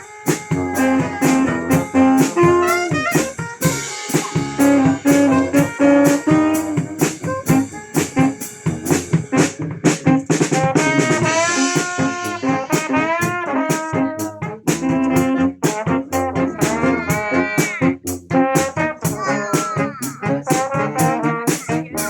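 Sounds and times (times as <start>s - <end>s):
bass line: 0.0s - 22.0s
brass band playing a pop ballad: 0.0s - 22.0s
steady drum beat: 0.0s - 22.0s.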